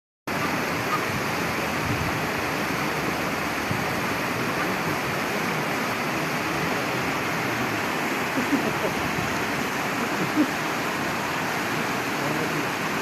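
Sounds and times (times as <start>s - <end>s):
steady rushing noise: 0.3s - 13.0s.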